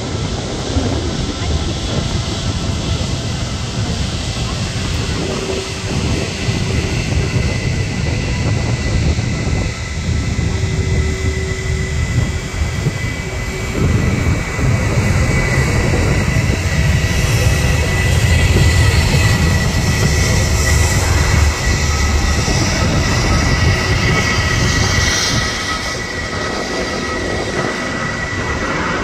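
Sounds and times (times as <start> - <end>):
jet engines rumbling and whining: 0.0 - 29.0.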